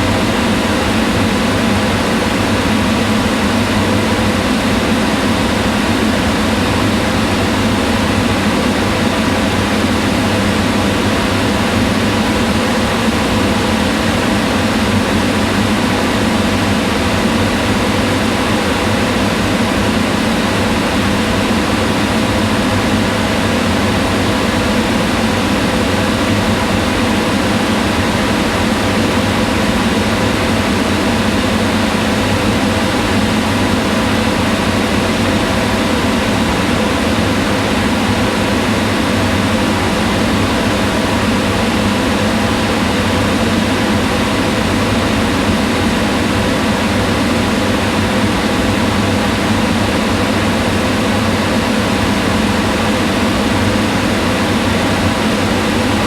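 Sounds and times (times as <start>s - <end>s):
range hood fan whirring: 0.0s - 56.0s.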